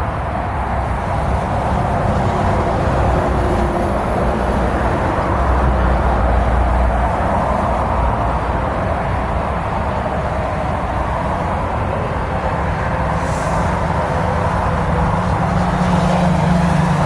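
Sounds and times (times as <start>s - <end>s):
highway traffic roar: 0.0s - 17.0s.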